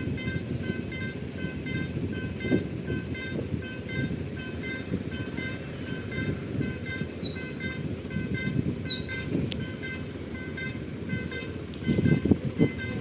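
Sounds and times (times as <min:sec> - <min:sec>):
low vehicle rumble: 0:00.0 - 0:13.0
short electronic warning tones: 0:00.0 - 0:13.0.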